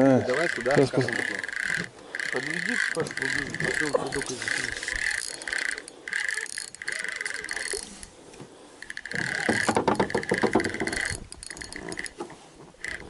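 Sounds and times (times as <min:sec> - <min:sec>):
fishing reel winding: 0:00.2 - 0:13.0
rattling clicks of reel: 0:00.2 - 0:13.0.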